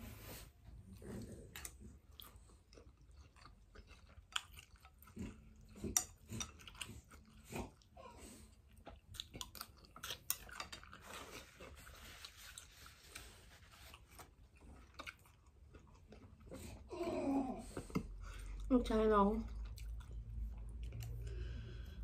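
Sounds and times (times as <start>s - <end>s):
person chewing noodles: 0.8s - 18.7s, 19.4s - 22.0s.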